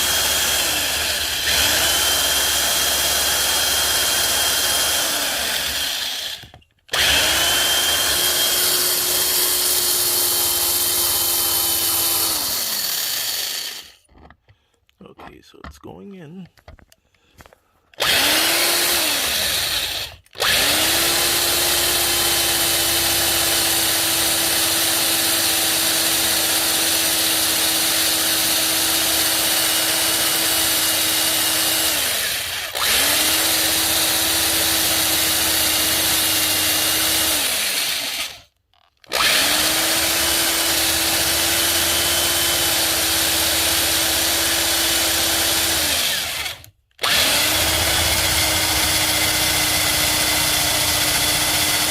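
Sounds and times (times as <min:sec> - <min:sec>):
electric drill drilling: 0:00.0 - 0:14.0, 0:18.0 - 0:51.9.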